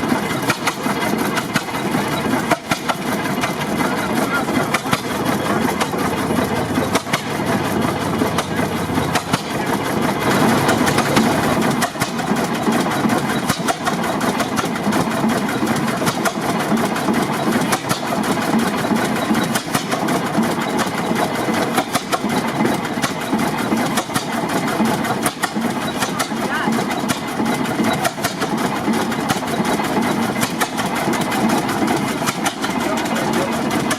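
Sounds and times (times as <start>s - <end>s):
tractor engine clattering: 0.0s - 33.9s.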